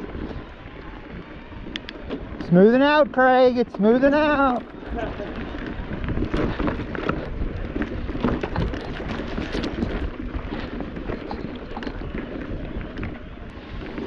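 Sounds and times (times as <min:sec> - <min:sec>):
mountain bike rumbling on trail: 0:00.0 - 0:14.0
wind buffeting microphone: 0:00.0 - 0:14.0.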